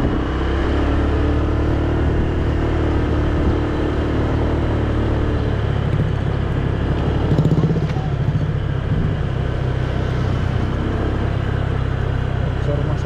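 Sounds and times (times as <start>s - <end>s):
motor scooter engine running: 0.0s - 13.0s
road and wind noise: 0.0s - 13.0s.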